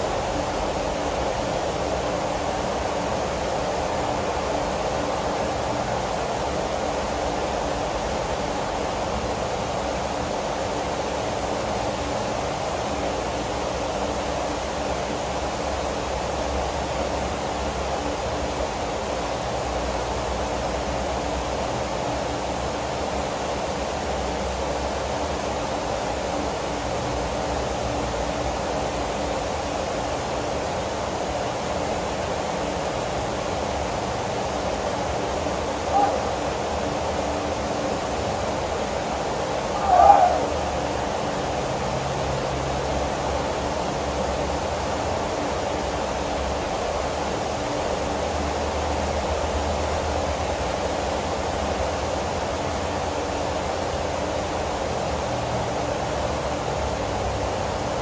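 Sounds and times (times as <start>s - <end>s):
heavy rain hiss: 0.0s - 58.0s.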